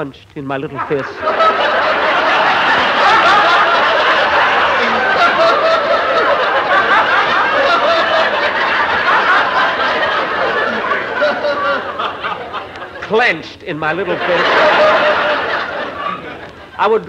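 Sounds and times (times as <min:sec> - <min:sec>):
audience laughing: 0:00.7 - 0:17.0.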